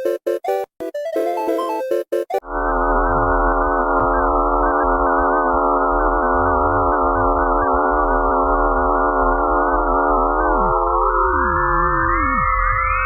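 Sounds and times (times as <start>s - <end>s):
emergency alert tone: 1.3s - 13.0s.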